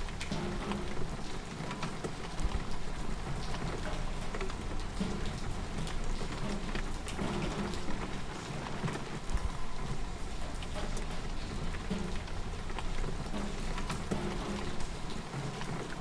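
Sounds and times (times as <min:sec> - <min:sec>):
rain drops pattering: 0:00.0 - 0:16.0
rain hiss: 0:00.0 - 0:16.0.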